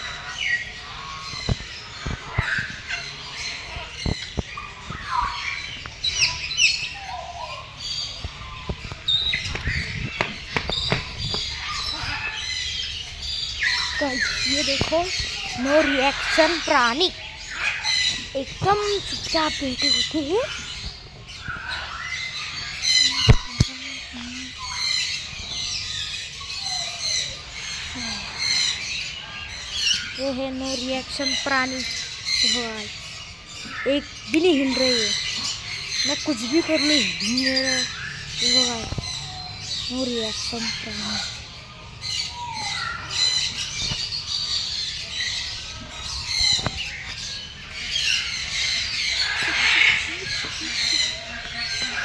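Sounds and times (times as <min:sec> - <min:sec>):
birds squawking and calling: 0:00.0 - 0:52.0.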